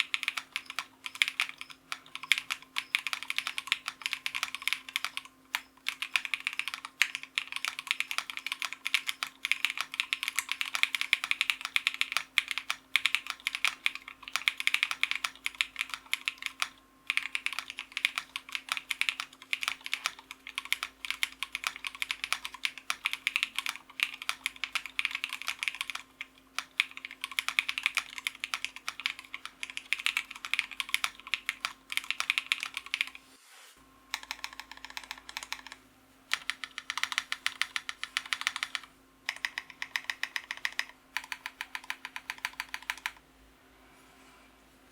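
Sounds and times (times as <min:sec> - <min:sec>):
mechanical keyboard typing: 0:00.0 - 0:33.2, 0:34.1 - 0:43.2.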